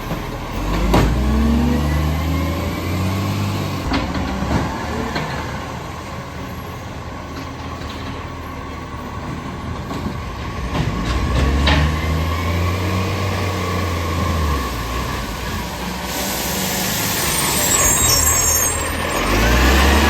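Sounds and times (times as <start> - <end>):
diesel engine with exhaust leak: 0.0 - 20.0.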